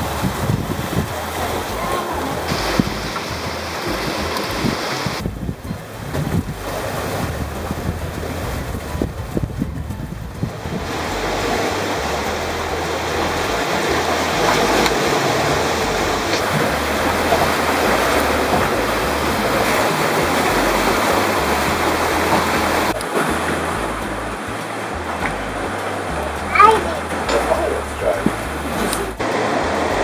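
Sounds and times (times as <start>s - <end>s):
sea water rushing: 0.0s - 30.0s
wind: 0.0s - 30.0s.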